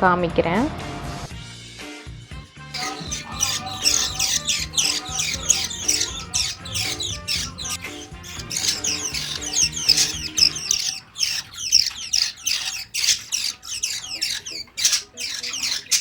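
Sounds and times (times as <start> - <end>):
birds chirping: 2.8 - 16.0.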